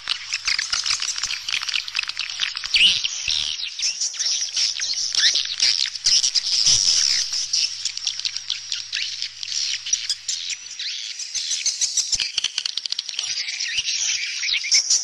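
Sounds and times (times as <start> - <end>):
swallows twittering: 0.0 - 15.0.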